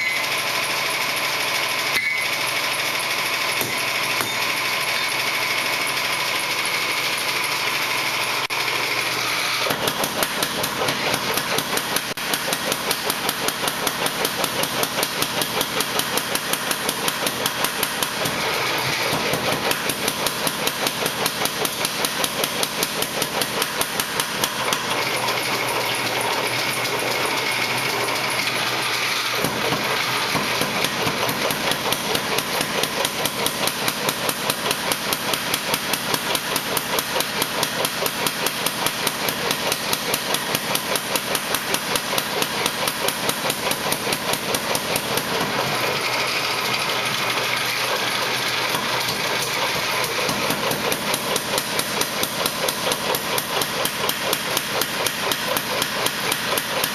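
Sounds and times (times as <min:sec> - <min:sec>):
hammer striking steel: 0:03.4 - 0:05.4, 0:09.6 - 0:56.9.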